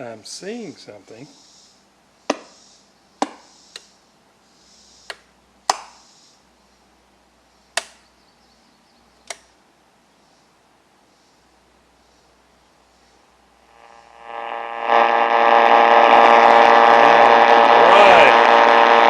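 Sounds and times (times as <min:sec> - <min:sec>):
faint hiss: 0:00.0 - 0:15.8.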